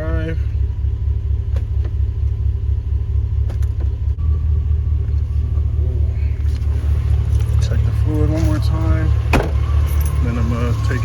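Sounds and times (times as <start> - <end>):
pickup truck engine idling: 0.0 - 11.0.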